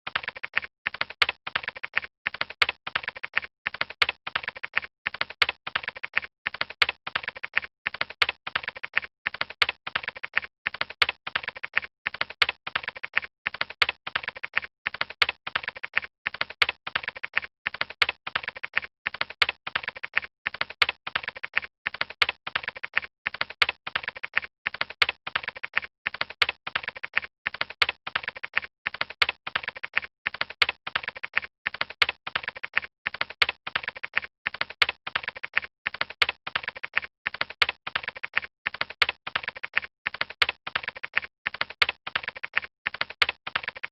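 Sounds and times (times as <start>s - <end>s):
fast computer keyboard typing: 0.1s - 43.9s.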